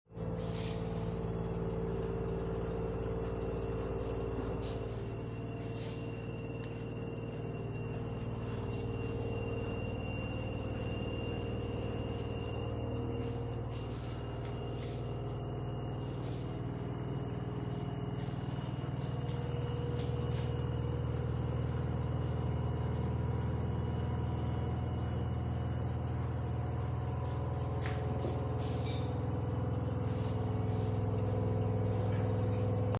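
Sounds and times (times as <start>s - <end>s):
washing machine droning: 0.1s - 32.9s.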